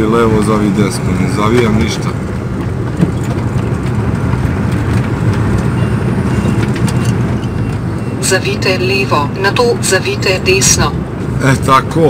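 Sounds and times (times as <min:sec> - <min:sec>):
diesel truck engine running: 0:00.0 - 0:12.0
road noise: 0:00.0 - 0:12.0.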